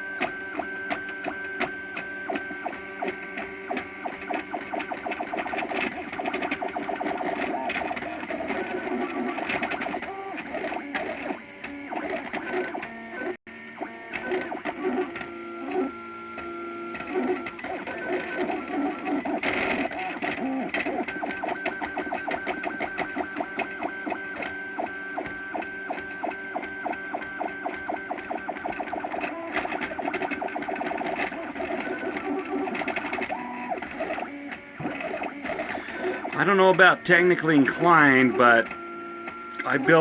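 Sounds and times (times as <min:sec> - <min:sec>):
stepper motors whining: 0:00.0 - 0:40.0.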